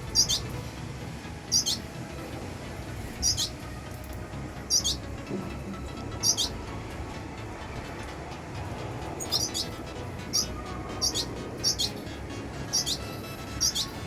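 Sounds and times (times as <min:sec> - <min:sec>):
birds chirping squeakily: 0:00.0 - 0:14.0.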